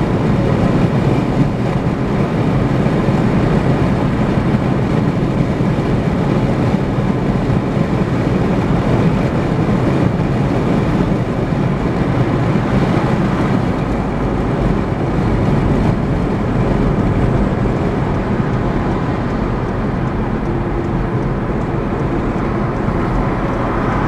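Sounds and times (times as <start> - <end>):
car road noise at highway speed: 0.0 - 24.0
tyre and engine rumble: 0.0 - 24.0
wind noise: 0.0 - 24.0.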